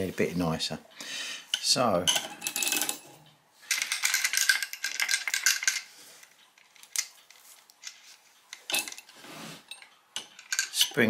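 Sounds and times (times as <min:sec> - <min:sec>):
metal parts clinking: 0:01.5 - 0:11.0.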